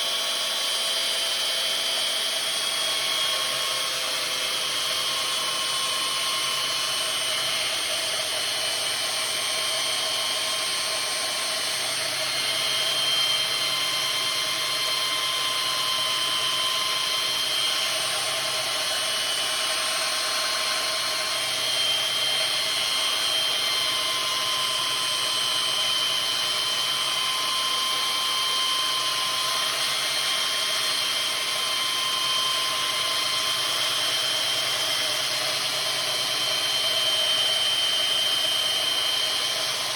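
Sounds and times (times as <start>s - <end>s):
power tool grinding metal: 0.0s - 39.9s.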